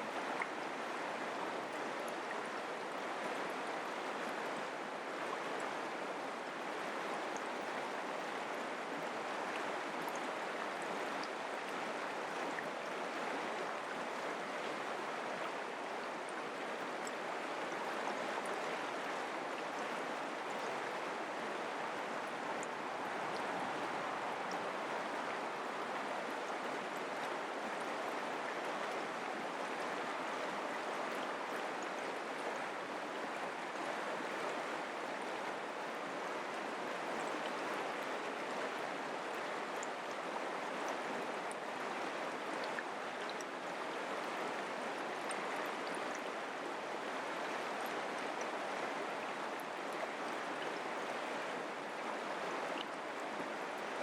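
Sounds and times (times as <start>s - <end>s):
creek water babbling over rocks: 0.0s - 54.0s.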